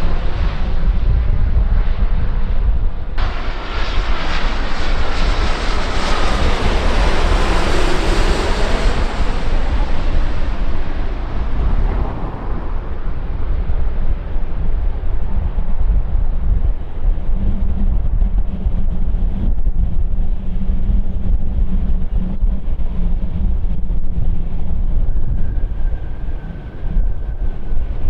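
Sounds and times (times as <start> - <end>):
airliner engines passing: 0.0 - 28.0
wind rumbling on microphone: 0.0 - 28.0.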